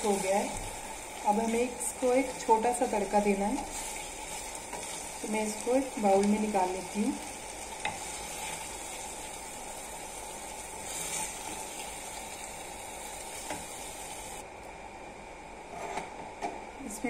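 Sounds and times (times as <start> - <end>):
gravy sizzling in a pan: 0.0 - 14.4.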